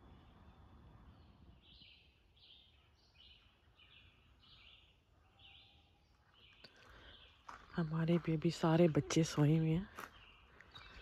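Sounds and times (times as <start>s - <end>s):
faint bird song: 0.0s - 11.0s.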